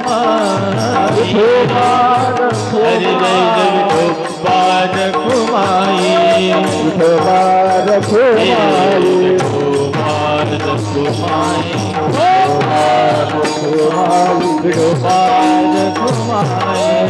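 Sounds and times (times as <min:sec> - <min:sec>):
hand percussion beat: 0:00.0 - 0:17.0
held accompaniment tones: 0:00.0 - 0:17.0
person singing ornamented melody: 0:00.0 - 0:17.0.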